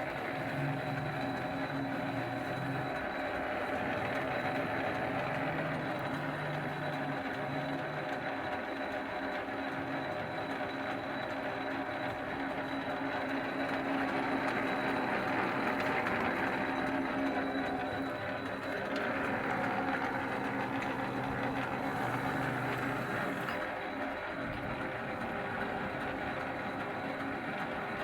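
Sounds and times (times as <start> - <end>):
metal lathe humming and whining: 0.0 - 28.0.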